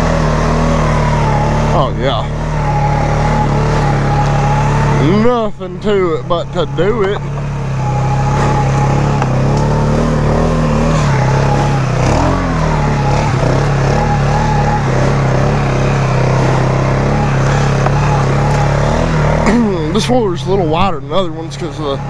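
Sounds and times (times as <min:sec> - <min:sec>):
atv engine pulling under load: 0:00.0 - 0:22.0.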